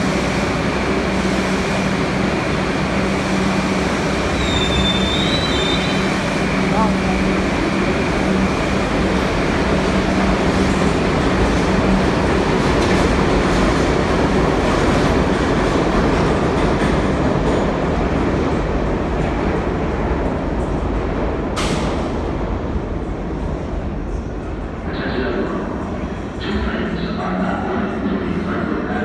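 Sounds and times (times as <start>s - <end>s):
subway train rail noise: 0.0s - 29.0s.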